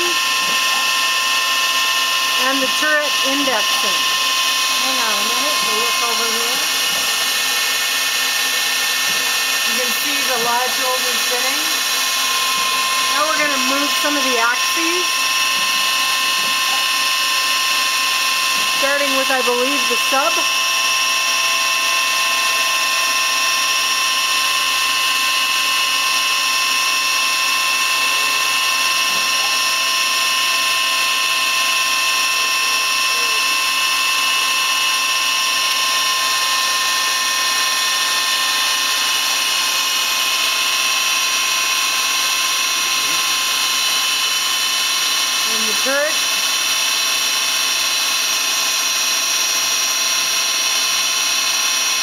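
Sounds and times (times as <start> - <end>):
lathe high-pitched whine: 0.0 - 52.0.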